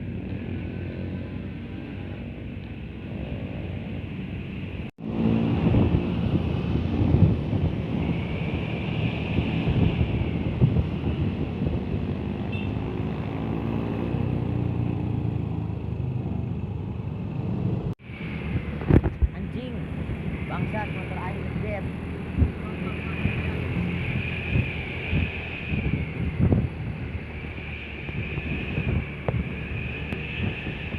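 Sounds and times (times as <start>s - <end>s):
wind on microphone: 0.0s - 16.6s, 17.4s - 30.9s
road noise: 0.0s - 30.9s
vehicle engine rumble: 0.0s - 30.9s.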